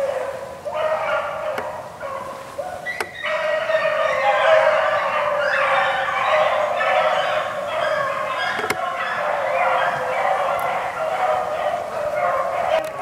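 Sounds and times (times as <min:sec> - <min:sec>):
dogs baying: 0:00.0 - 0:13.0.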